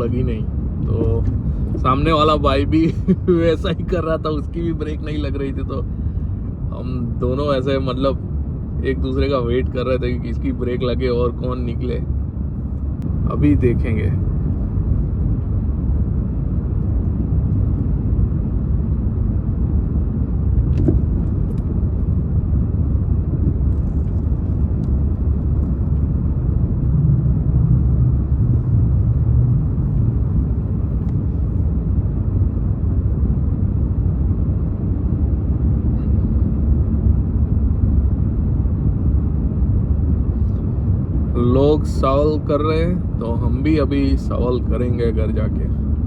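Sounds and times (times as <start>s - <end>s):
car driving rumble from inside: 0.0s - 46.0s.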